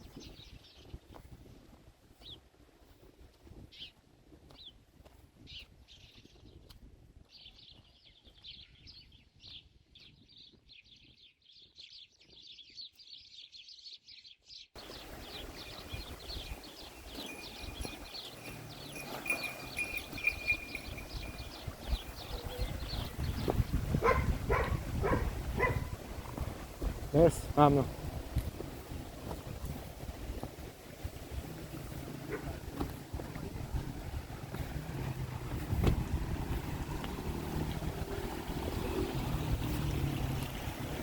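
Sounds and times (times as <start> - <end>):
small birds chirping: 0.0 - 1.4, 3.6 - 4.8, 5.4 - 40.8.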